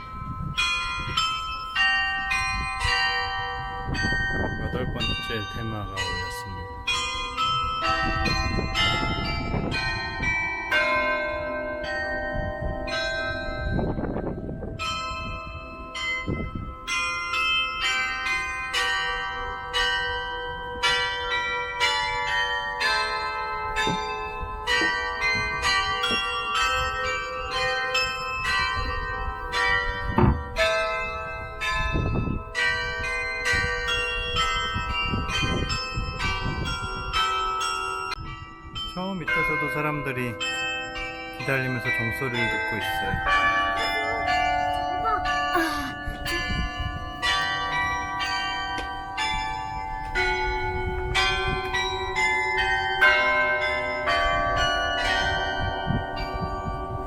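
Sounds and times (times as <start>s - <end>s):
carillon bells playing melody: 0.0s - 57.0s.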